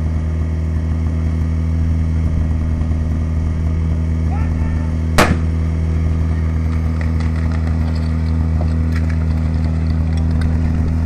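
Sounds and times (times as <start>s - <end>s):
pump engine droning: 0.0s - 11.0s.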